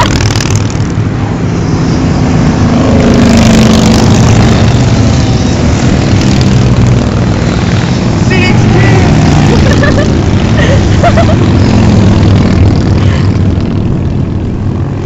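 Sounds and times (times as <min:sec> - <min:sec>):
motorcycles riding past: 0:00.0 - 0:15.0.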